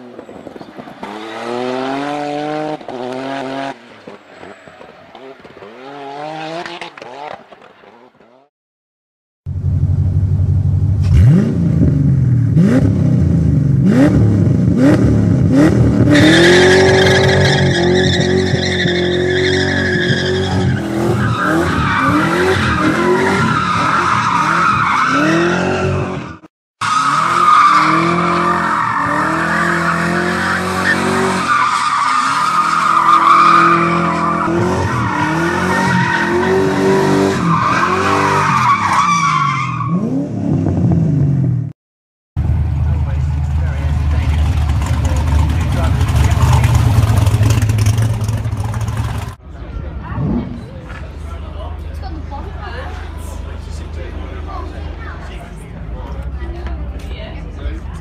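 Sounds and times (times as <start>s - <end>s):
car engine revving: 0.8s - 8.2s, 9.6s - 41.6s, 42.4s - 49.4s.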